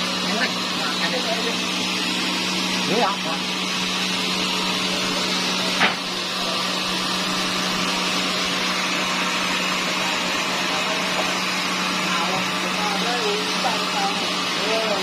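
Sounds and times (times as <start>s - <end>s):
rushing machinery noise: 0.0s - 15.0s
sawmill motor hum: 0.0s - 15.0s.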